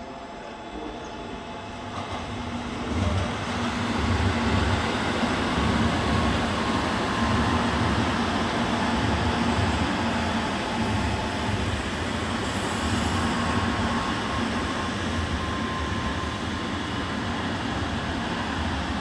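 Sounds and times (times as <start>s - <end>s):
bullet train passing: 0.0s - 19.0s
rumble of wheels on track: 0.0s - 19.0s.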